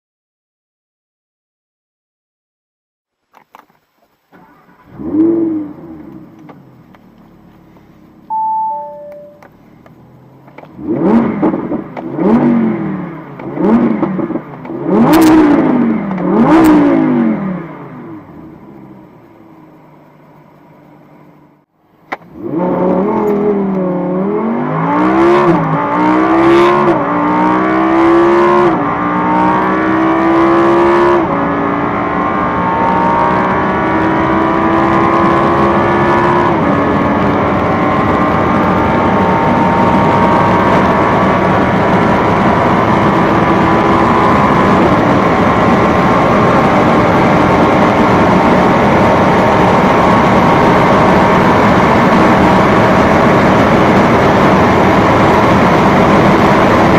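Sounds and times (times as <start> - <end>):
car engine accelerating hard: 4.3 - 8.4, 9.4 - 19.7, 22.2 - 56.9.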